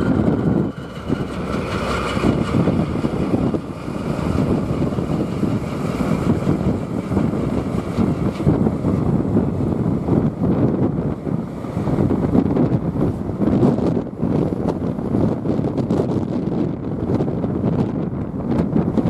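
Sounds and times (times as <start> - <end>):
blizzard wind buffeting microphone: 0.0 - 19.0.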